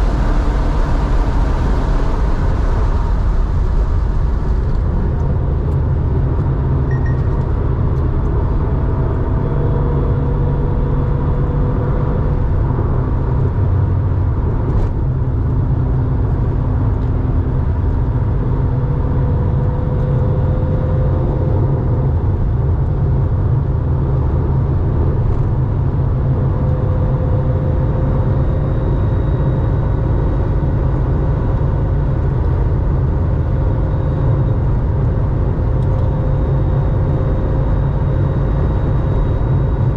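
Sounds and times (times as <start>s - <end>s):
car exhaust drone: 0.0s - 39.9s
road noise: 0.0s - 39.9s.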